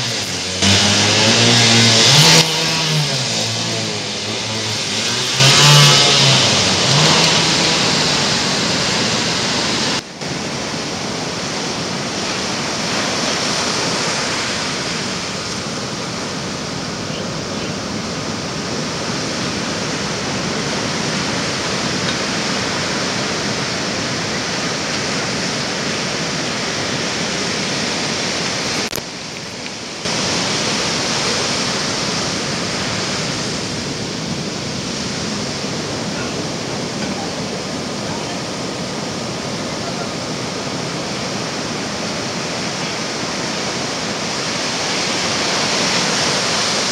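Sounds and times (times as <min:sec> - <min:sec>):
ocean surf breaking around a boat hull: 0:00.0 - 0:46.9.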